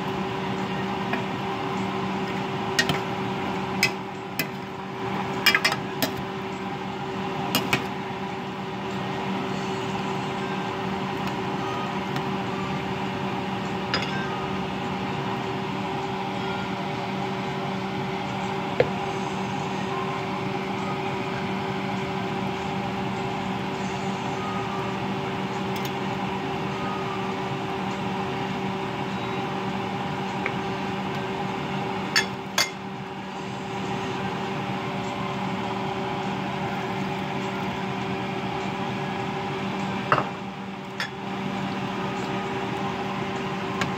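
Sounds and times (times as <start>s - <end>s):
kitchen fan humming: 0.0s - 43.9s.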